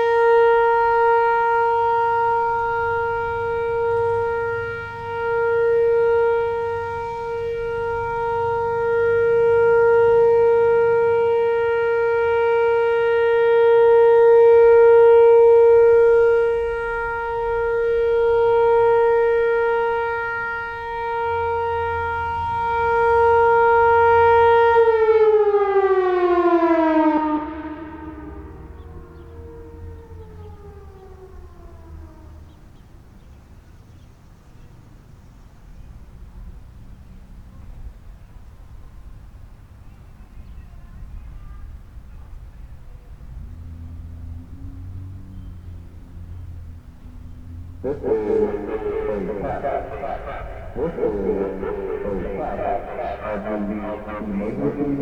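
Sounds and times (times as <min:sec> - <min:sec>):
outdoor warning siren: 0:00.0 - 0:37.9, 0:43.3 - 0:55.0.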